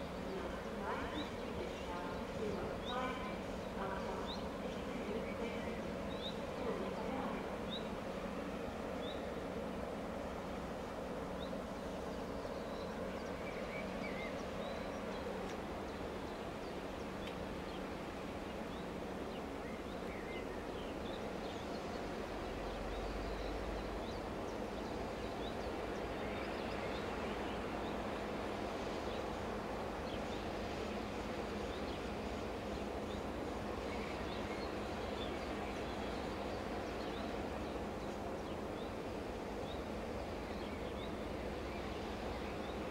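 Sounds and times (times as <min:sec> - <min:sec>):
small birds chirping: 0:00.0 - 0:08.1, 0:11.3 - 0:42.9
diesel locomotive idling hum: 0:00.0 - 0:42.9.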